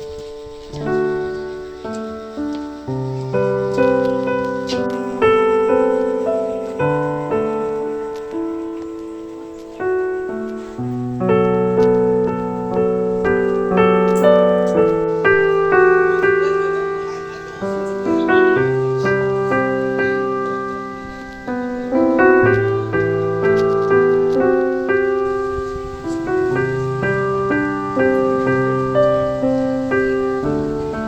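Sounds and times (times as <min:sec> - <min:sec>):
slow gentle piano music: 0:00.0 - 0:31.0.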